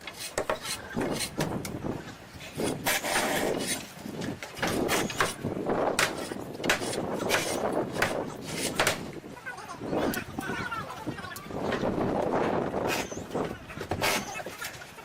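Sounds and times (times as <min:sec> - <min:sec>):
wood scraping: 0:00.0 - 0:09.2, 0:11.6 - 0:14.9.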